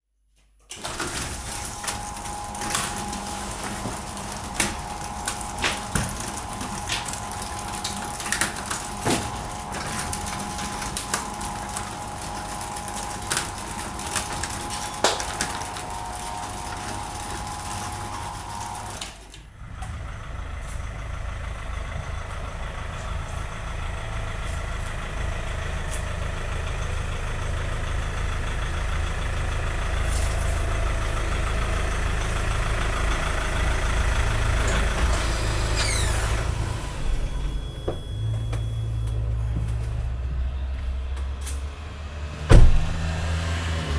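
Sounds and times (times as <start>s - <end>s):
vehicle engine running: 1.6s - 18.9s, 19.5s - 43.9s.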